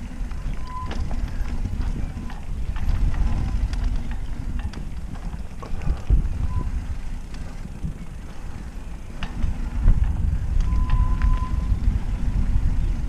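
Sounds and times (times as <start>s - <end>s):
bike clicks and rattles: 0.0s - 13.0s
tyres rumbling over dirt trail: 0.0s - 13.0s
wind buffeting microphone: 0.0s - 13.0s.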